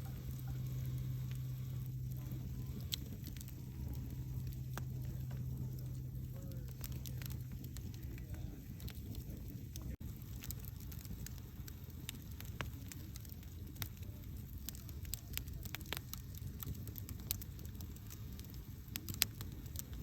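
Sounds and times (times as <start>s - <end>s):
campfire crackling and popping: 0.0s - 20.0s
campfire flames rushing: 0.0s - 20.0s.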